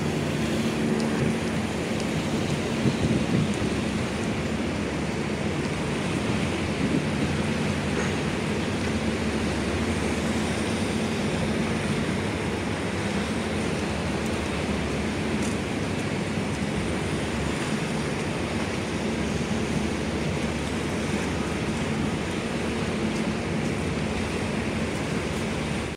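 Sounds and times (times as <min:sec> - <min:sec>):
choppy water: 0:00.0 - 0:25.9
low droning hum: 0:00.0 - 0:25.9
wind: 0:00.0 - 0:25.9.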